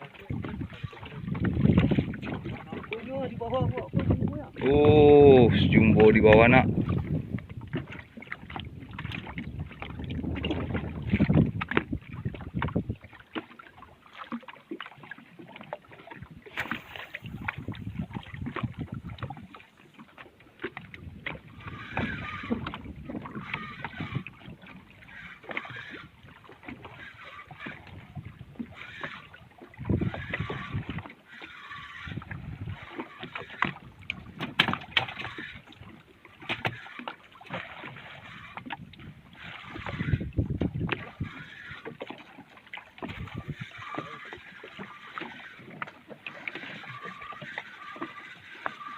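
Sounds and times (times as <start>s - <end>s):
water lapping against boat: 0.0s - 48.9s.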